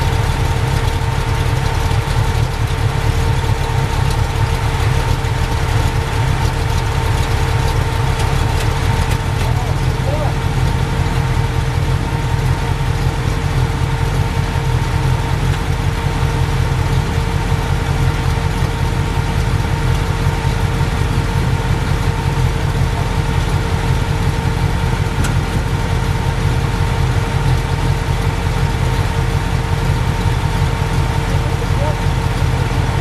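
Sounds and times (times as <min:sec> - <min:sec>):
vehicle engine running steadily: 0:00.0 - 0:33.0.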